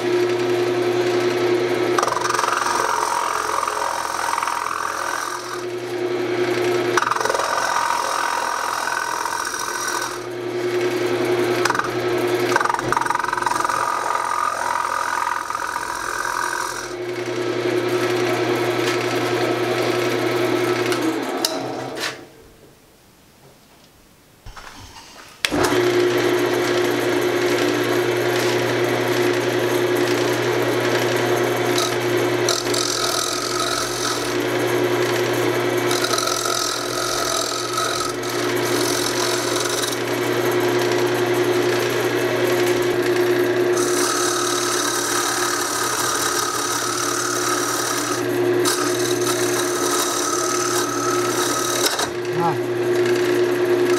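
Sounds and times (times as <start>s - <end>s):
wood lathe motor hum: 0.0s - 22.0s, 25.4s - 53.9s
turning tool cutting wood: 0.0s - 22.2s, 25.4s - 53.9s.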